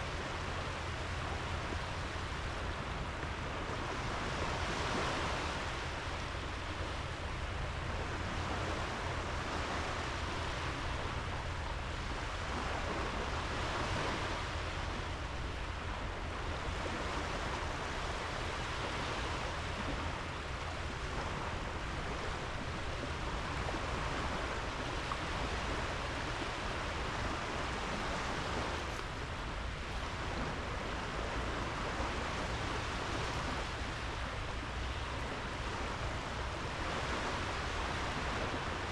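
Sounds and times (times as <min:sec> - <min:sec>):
constant low rumble: 0:00.0 - 0:38.9
waves washing onto beach: 0:00.0 - 0:38.9.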